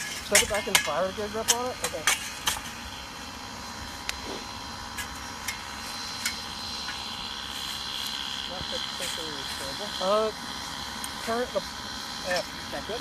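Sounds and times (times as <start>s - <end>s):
blower-fed fire rushing: 0.0s - 13.0s.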